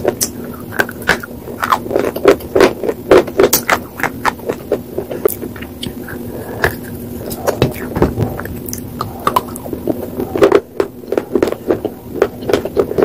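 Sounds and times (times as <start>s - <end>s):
brittle crunching between teeth: 0.0s - 13.0s.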